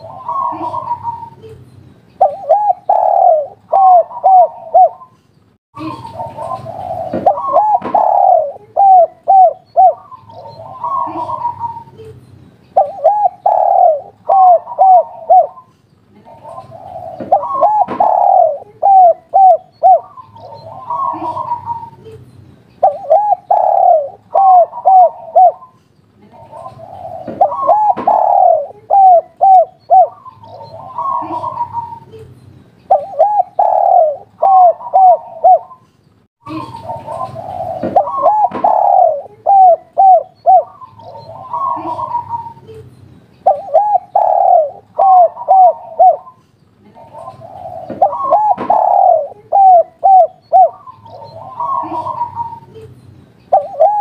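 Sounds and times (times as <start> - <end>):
dove cooing: 0.0 - 1.6, 2.2 - 5.2, 5.8 - 12.2, 12.8 - 22.2, 22.8 - 32.2, 32.9 - 35.8, 36.5 - 42.8, 43.4 - 52.9, 53.5 - 54.0.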